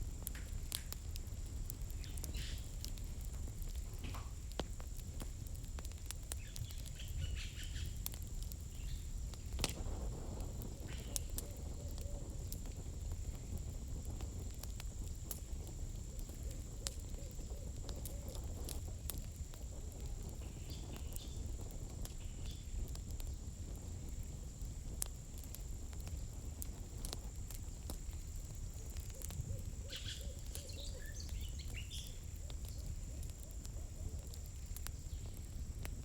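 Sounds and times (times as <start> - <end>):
campfire crackling and popping: 0.0 - 36.0
low rumble of burning: 0.0 - 36.0.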